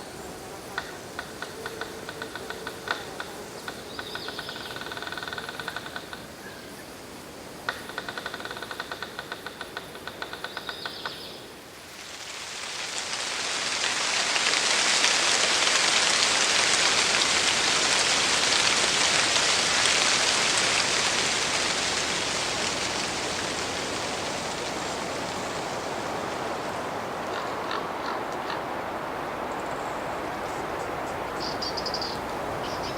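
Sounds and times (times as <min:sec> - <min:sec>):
dense steady hiss: 0:00.0 - 0:32.9.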